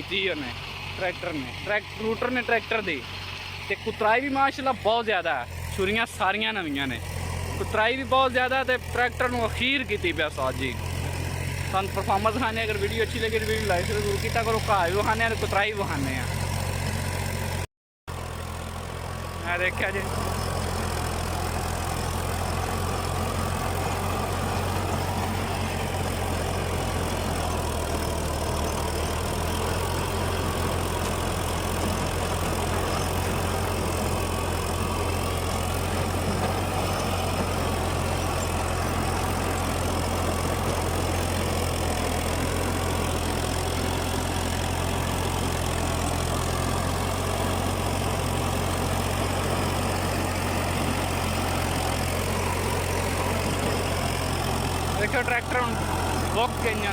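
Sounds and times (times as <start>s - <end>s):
tractor diesel engine drone: 0.0s - 56.9s.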